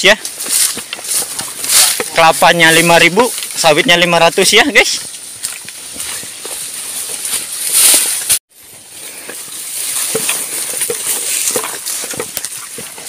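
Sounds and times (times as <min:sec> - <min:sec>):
leaves and stems brushing: 0:00.0 - 0:13.0
soft footsteps: 0:00.0 - 0:13.0.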